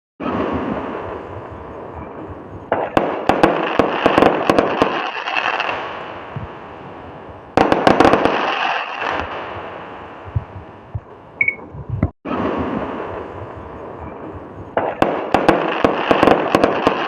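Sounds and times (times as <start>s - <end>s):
fireworks crackling: 0.2s - 11.0s, 12.3s - 17.0s.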